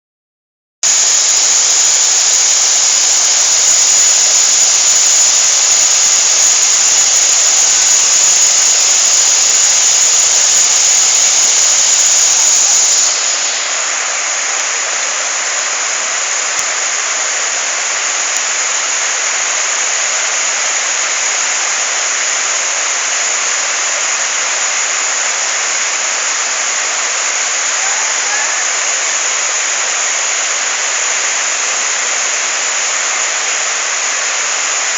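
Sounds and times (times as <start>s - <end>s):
waterfall rushing: 0.8s - 34.9s.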